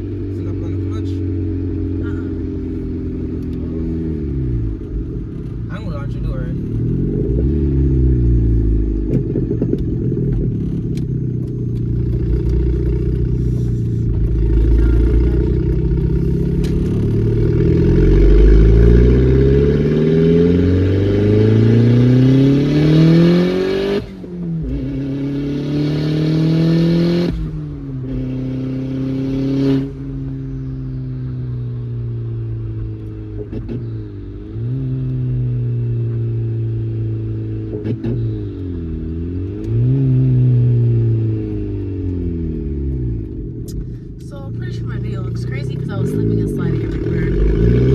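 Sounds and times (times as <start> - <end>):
car engine accelerating and shifting: 0.0 - 47.9.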